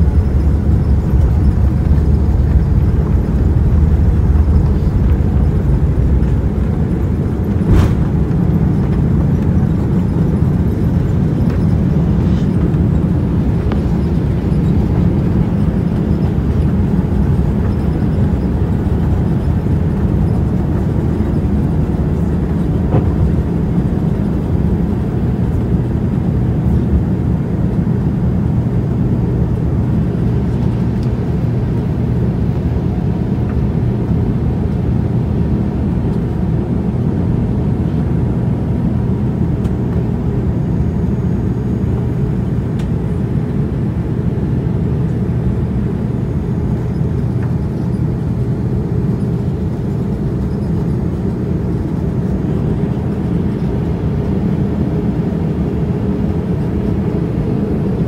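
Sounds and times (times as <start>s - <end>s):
airliner cabin rumble: 0.0s - 58.0s
low steady hum: 0.0s - 58.0s.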